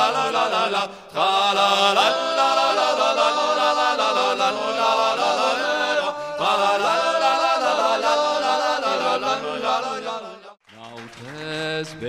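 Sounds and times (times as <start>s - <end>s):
people singing folk song: 0.0s - 10.6s.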